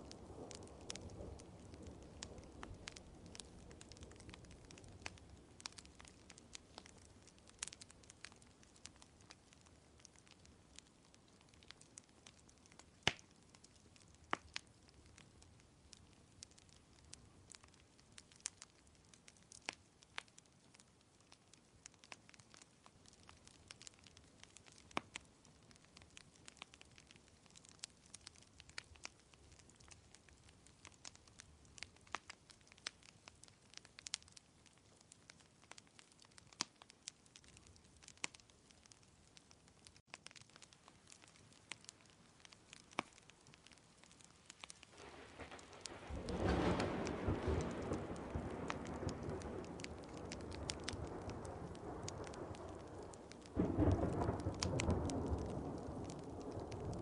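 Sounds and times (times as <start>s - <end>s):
faint steady hiss: 0.0s - 57.0s
sharp pops of fire: 0.0s - 57.0s
wood fire crackling: 0.0s - 57.0s.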